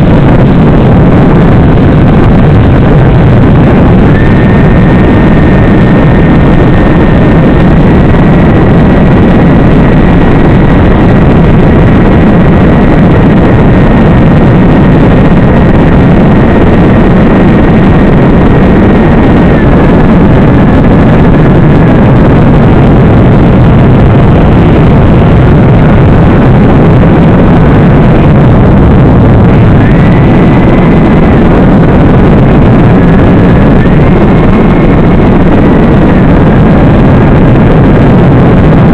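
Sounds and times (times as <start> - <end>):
high-pitched motor whine: 0.0 - 38.9
motor propeller and wind rush: 0.0 - 38.9.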